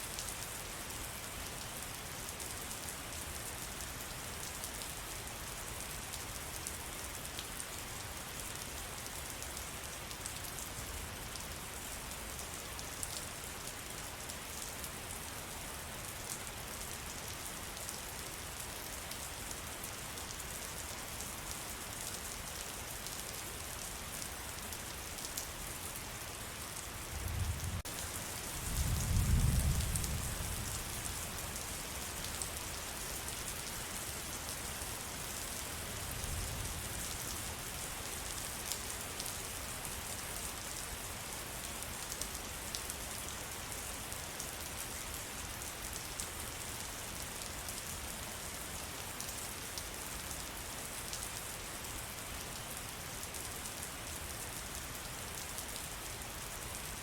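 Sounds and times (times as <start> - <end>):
rain pattering in forest: 0.0 - 57.0.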